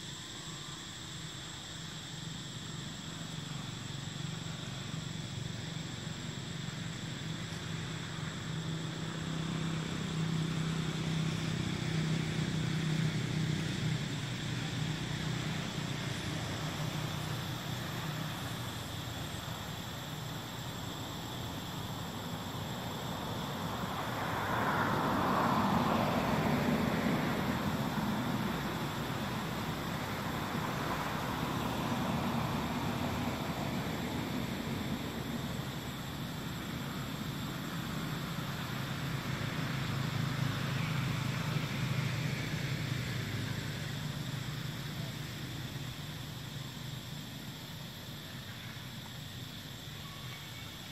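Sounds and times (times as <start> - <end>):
high insect drone: 0.0 - 50.9
motor vehicles passing: 3.8 - 49.5.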